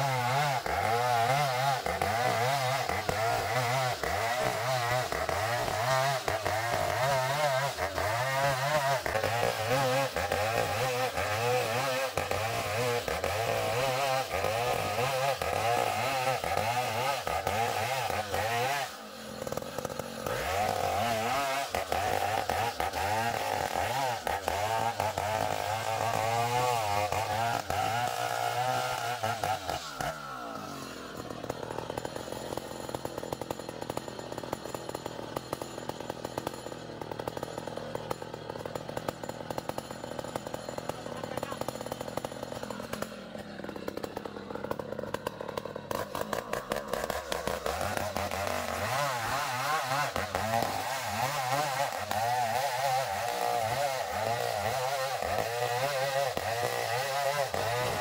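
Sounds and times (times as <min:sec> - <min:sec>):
chainsaw cutting a log: 0:00.0 - 0:58.0.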